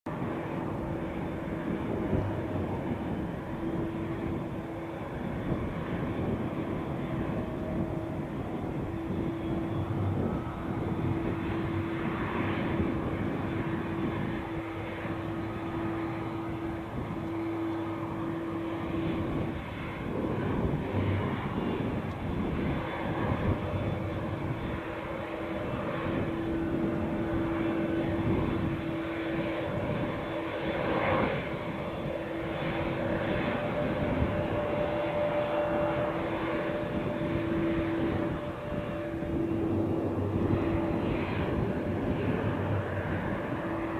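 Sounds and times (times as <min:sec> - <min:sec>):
airplane engines droning: 0:00.0 - 0:43.9
higher engine tone: 0:00.1 - 0:43.9.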